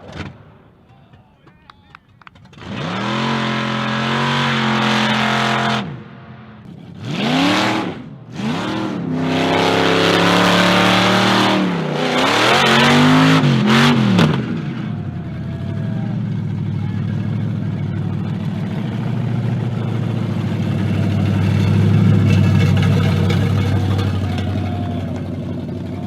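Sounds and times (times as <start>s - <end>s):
car engine revving: 2.2s - 26.0s.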